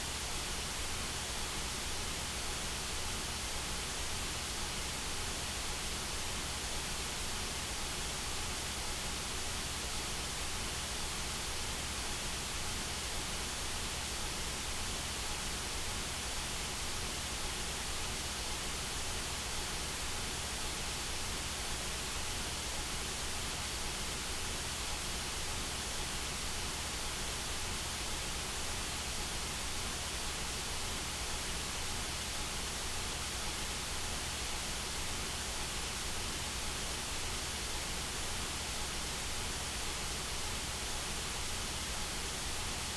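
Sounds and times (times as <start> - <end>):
white noise hiss: 0.0 - 42.9.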